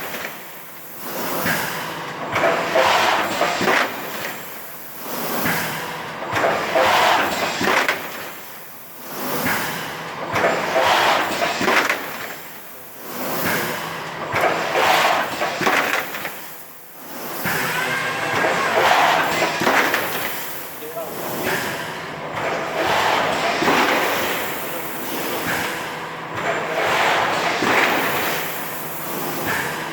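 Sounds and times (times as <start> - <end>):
machine air hiss: 0.0 - 29.9.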